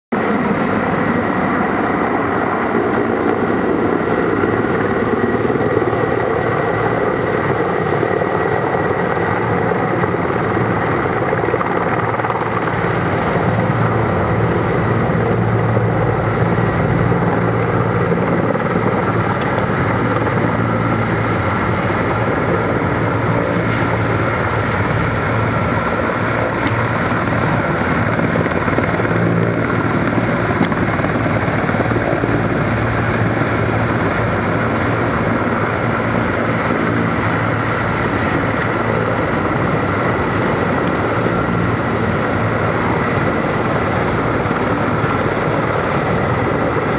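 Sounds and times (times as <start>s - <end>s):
helicopter rotor beat: 0.1s - 46.9s
high turbine whine: 0.1s - 46.9s.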